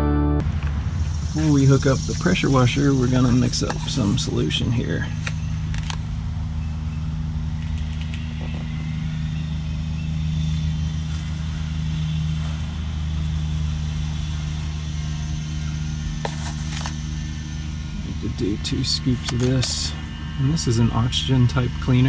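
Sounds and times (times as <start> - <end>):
pressure washer engine running: 0.4 - 22.0.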